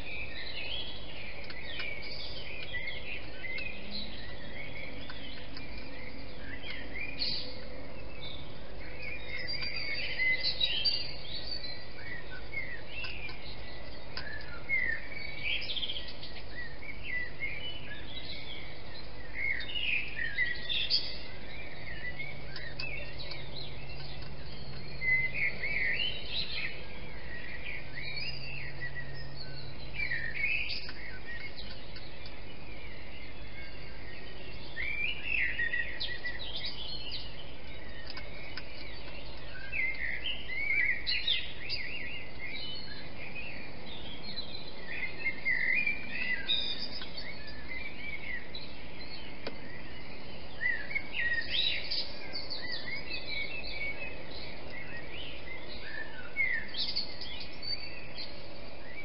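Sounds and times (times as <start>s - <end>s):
birds singing and chirping: 0.0s - 59.0s
steady background hiss: 0.0s - 59.0s.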